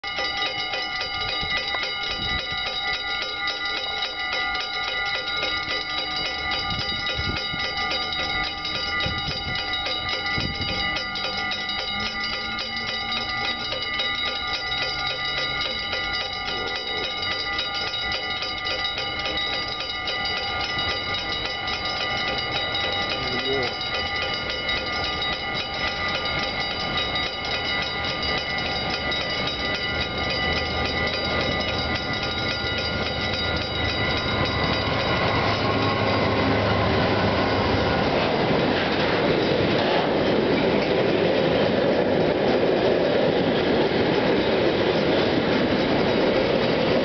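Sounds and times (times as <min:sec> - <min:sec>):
level crossing bell ringing: 0:00.0 - 0:38.6.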